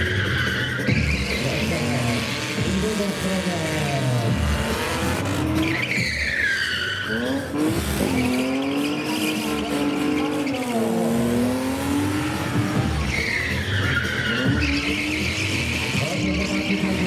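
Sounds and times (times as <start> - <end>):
car engines revving: 0.0 - 17.0
tyres squealing: 0.0 - 17.0.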